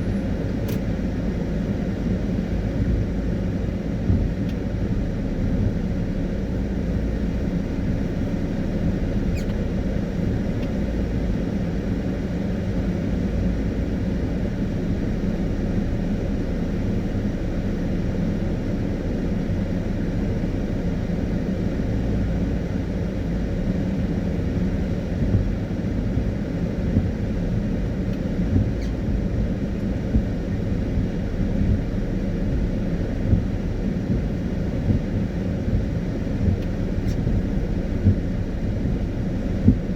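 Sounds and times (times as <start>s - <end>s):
car driving on a wet road: 0.0s - 39.9s.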